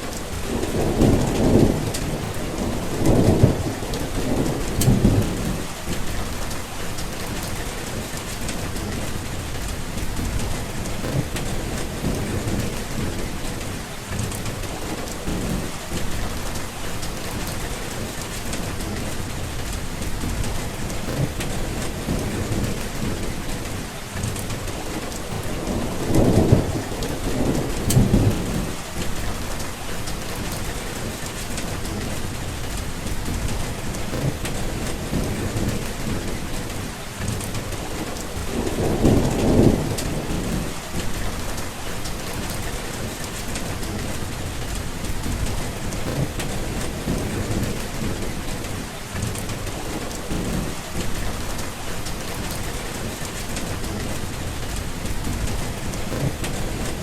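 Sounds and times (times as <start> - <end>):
steady rain falling: 0.0 - 57.0
thunder rumbling: 0.0 - 57.0.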